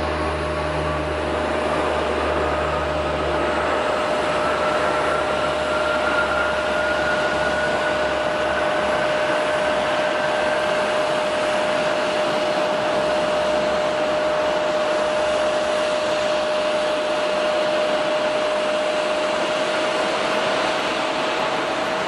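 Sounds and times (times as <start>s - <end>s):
turboprop plane taking off: 0.0s - 22.0s.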